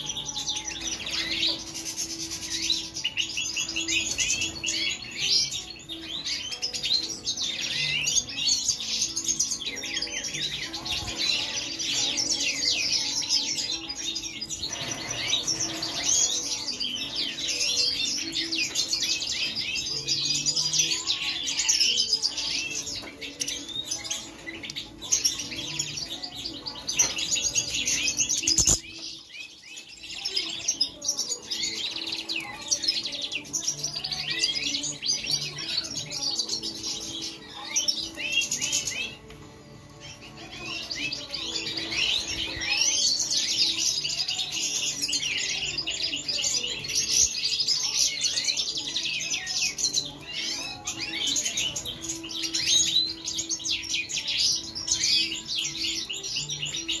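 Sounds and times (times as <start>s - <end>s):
finches twittering and chirping: 0.0s - 57.0s.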